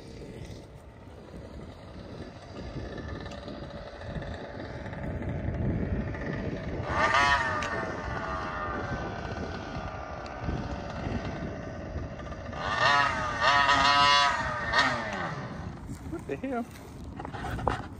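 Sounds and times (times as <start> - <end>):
small two-stroke engine revving: 0.0 - 17.9.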